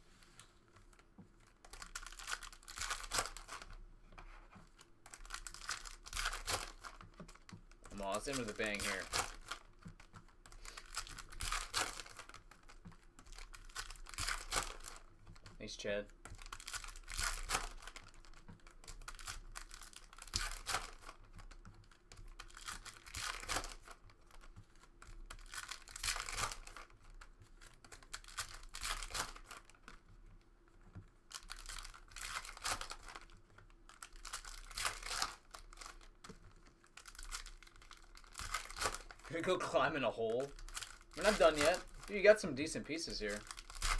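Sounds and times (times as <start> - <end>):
cards being handled: 0.1 - 15.6, 16.2 - 43.9
wrappers tearing and crinkling: 1.4 - 3.8, 4.6 - 15.6, 16.2 - 30.0, 31.2 - 43.9.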